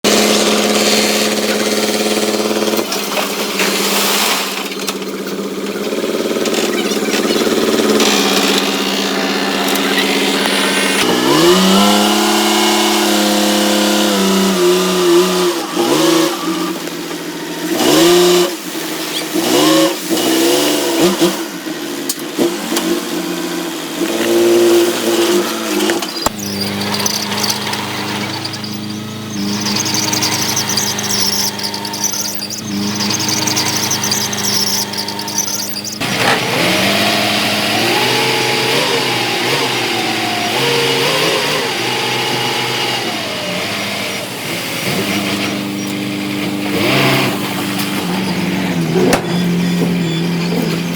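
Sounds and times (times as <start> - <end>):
heavy machinery engines revving: 0.0 - 50.9.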